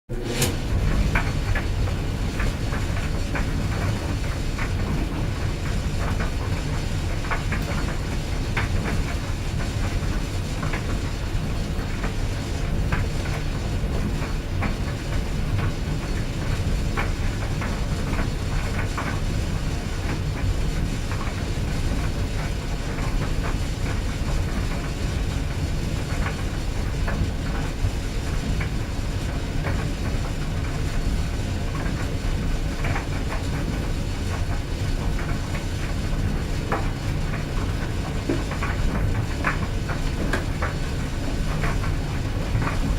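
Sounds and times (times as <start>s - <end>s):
clothes dryer drum rumbling: 0.1s - 42.9s.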